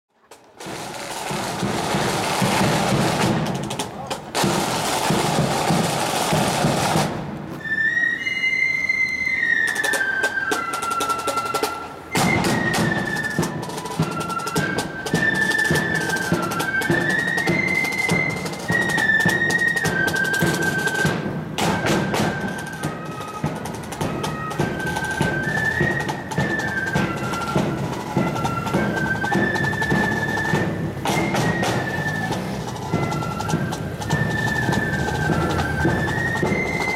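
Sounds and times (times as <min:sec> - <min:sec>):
flute band playing: 0:00.1 - 0:36.9.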